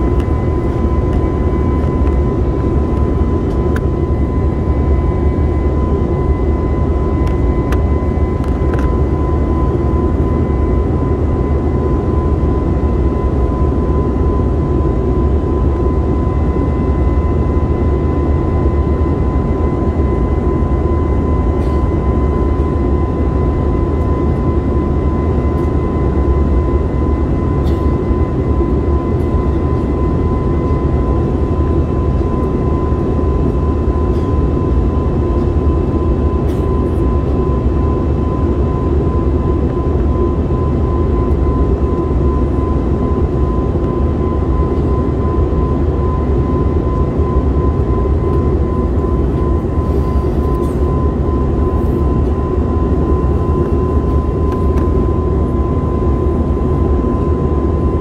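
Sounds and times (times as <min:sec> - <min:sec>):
high whine: 0:00.0 - 0:58.0
jet engine cabin rumble: 0:00.0 - 0:58.0.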